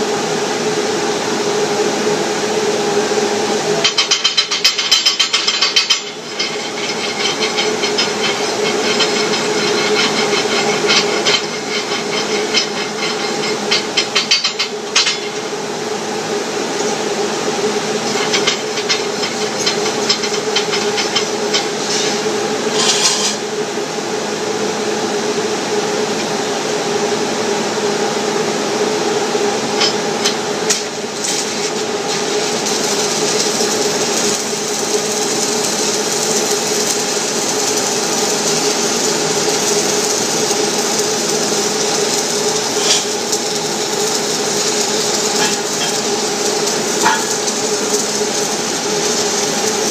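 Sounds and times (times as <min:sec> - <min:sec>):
steady hum: 0:00.0 - 0:49.9
welding arc crackling and hissing: 0:02.7 - 0:23.7, 0:27.9 - 0:49.9.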